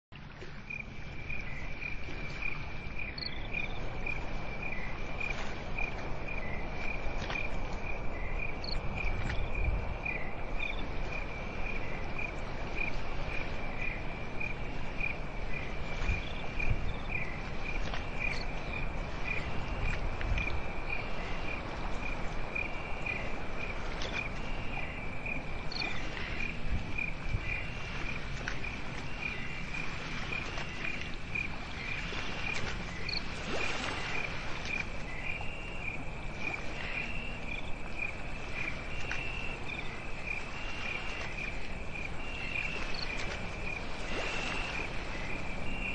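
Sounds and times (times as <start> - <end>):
crickets chirping: 0.3 - 45.9.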